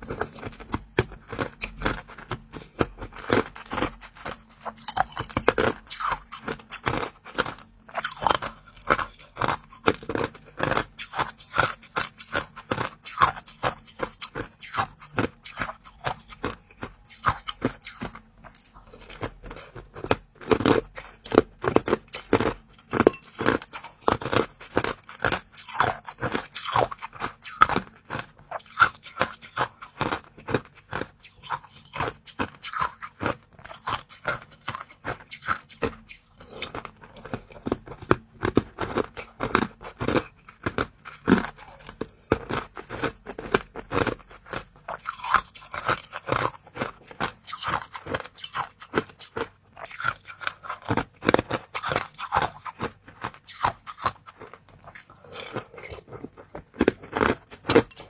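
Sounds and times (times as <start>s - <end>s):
person chewing crunchy treats: 0.0s - 58.0s.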